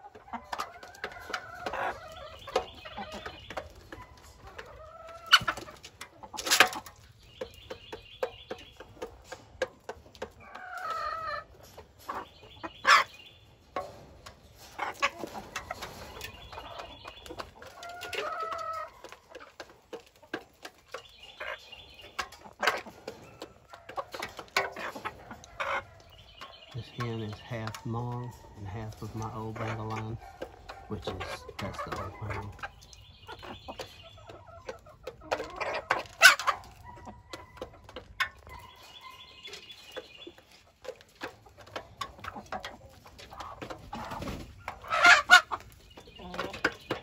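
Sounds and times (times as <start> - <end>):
beaks pecking grain in metal pan: 0.0 - 47.0
hens clucking softly: 0.0 - 47.0.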